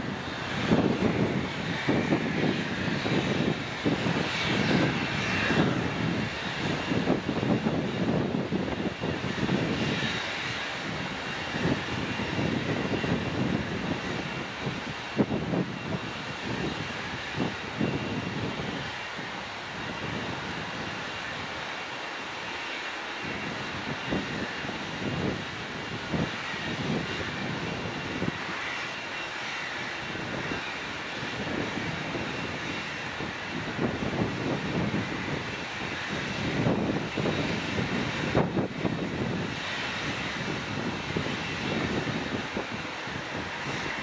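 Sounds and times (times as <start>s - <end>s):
jet engine rushing: 0.0s - 44.0s.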